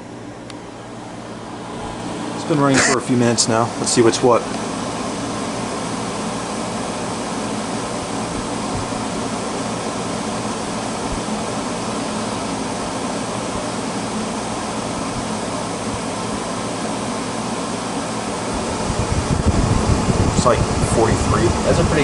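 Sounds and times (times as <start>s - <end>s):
air conditioner fan blowing: 0.0s - 22.0s
compressor humming: 0.0s - 22.0s.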